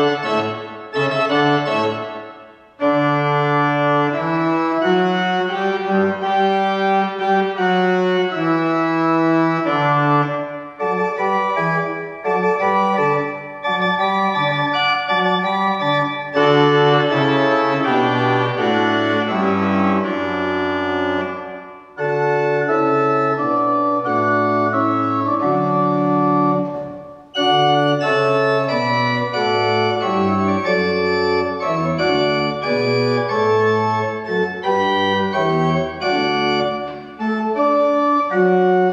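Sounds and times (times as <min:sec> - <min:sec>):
church pipe organ playing chords: 0:00.0 - 0:38.9.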